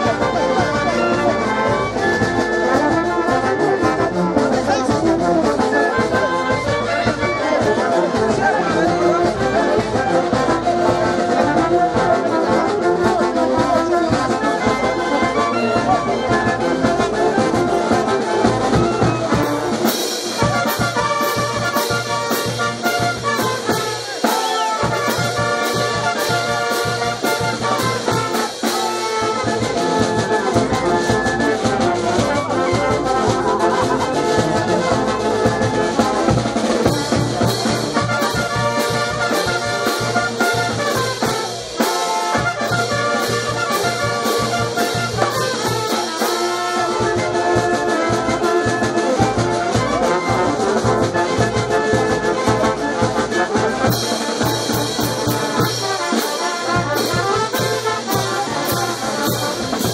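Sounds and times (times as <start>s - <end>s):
steady drum beat: 0.0s - 59.9s
trumpets and trombones: 0.0s - 59.9s.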